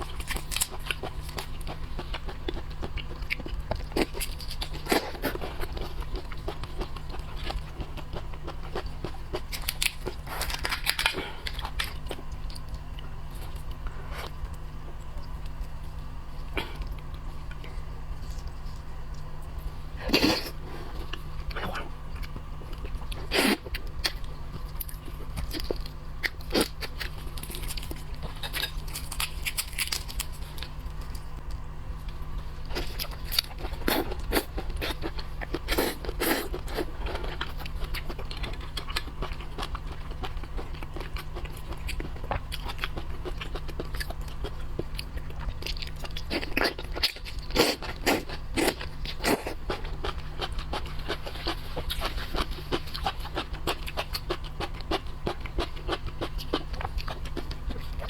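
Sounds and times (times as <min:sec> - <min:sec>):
person chewing crunchy food: 0:00.0 - 0:58.0
steady low hum: 0:00.0 - 0:58.0.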